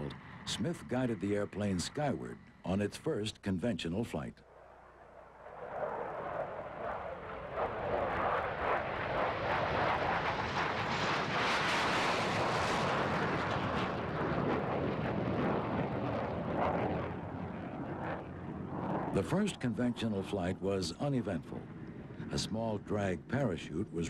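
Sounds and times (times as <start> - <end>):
jet engine taking off: 0.0 - 3.0, 4.5 - 24.0.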